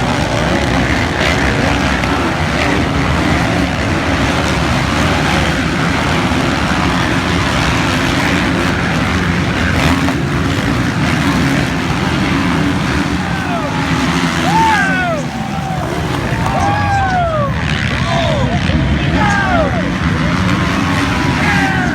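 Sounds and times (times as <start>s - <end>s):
motocross bike engines running: 0.0s - 21.9s.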